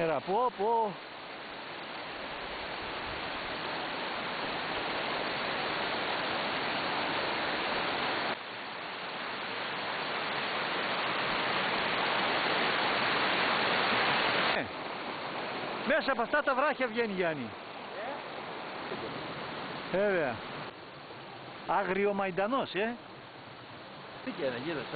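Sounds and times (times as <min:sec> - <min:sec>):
water rushing over rocks: 0:00.0 - 0:24.9.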